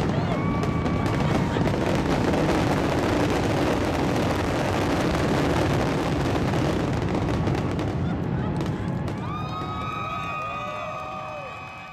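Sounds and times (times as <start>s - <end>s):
fireworks bursting: 0.0s - 11.5s.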